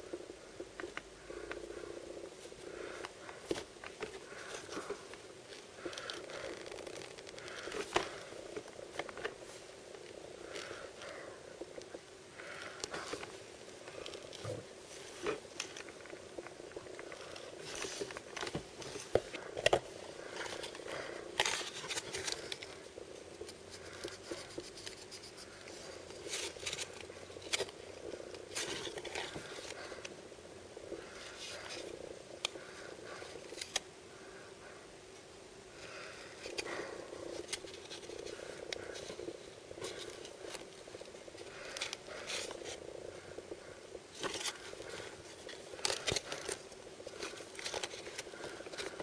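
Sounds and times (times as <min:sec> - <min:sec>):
plastic and foil crinkling: 0:02.4 - 0:11.2, 0:11.8 - 0:30.1, 0:30.8 - 0:33.8, 0:35.8 - 0:49.0.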